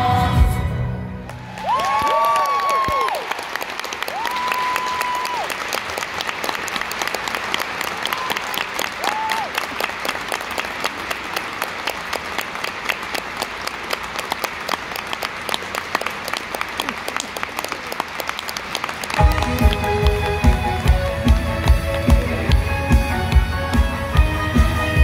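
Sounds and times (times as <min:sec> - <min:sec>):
audience applauding: 0:01.2 - 0:25.0.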